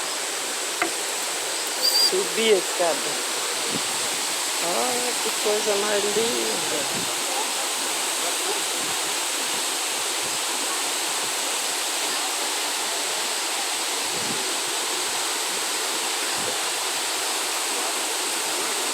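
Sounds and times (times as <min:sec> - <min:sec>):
waterfall rushing and splashing: 0:00.0 - 0:18.9.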